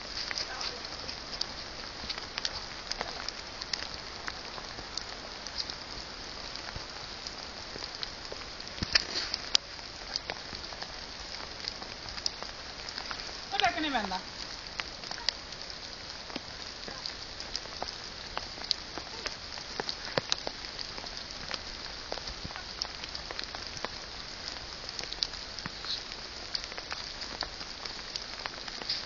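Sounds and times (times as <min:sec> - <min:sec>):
light rain pattering: 0:00.0 - 0:29.0
sharp taps of raindrops: 0:00.0 - 0:29.0.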